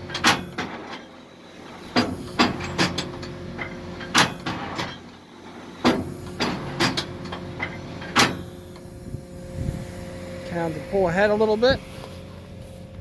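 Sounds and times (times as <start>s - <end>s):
machinery engine hum: 0.0s - 13.0s.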